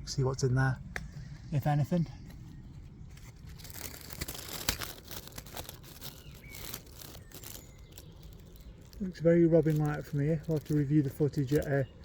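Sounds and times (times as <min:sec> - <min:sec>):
leaves and twigs rustling: 0:01.0 - 0:12.0.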